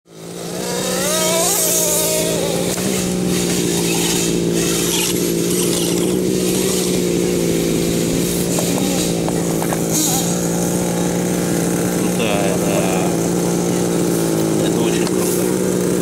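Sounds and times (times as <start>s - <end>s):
small petrol engine buzzing: 0.1s - 16.0s.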